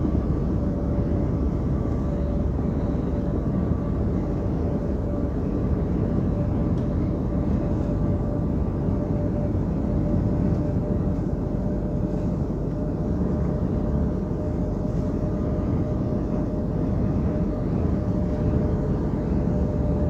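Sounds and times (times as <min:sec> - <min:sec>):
thin constant whine: 0:00.0 - 0:20.0
truck engine and tyres droning: 0:00.0 - 0:20.0.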